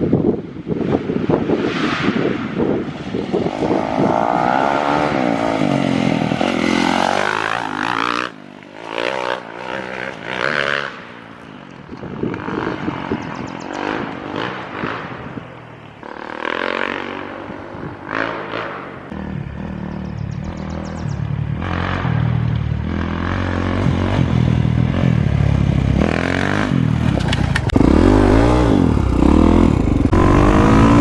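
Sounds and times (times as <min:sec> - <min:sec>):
motorcycle engine revving: 0:00.8 - 0:31.0
motorcycle engine riding past: 0:03.2 - 0:31.0.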